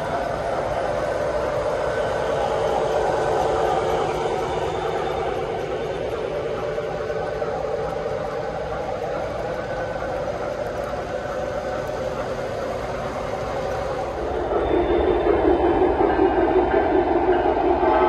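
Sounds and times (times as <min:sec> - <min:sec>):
model train wheels rumbling on track: 0:00.0 - 0:18.0.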